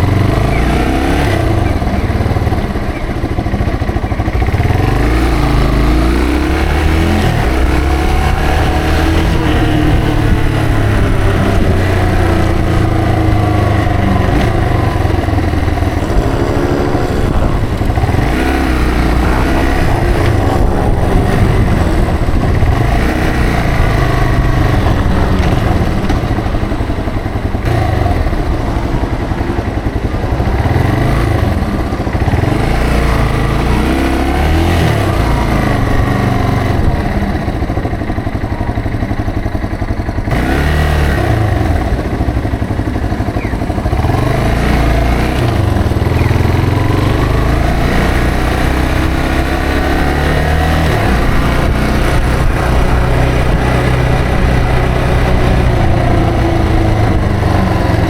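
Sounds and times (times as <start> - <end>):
motorcycle engine accelerating: 0.0 - 58.0
low wind rumble: 1.2 - 40.4, 41.2 - 58.0.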